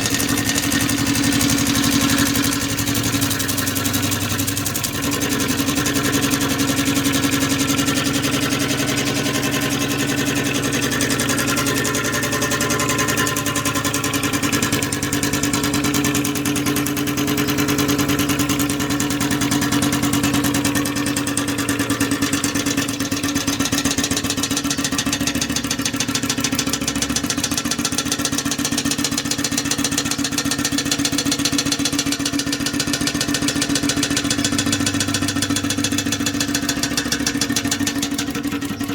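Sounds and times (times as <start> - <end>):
small steam engine running: 0.0 - 38.9.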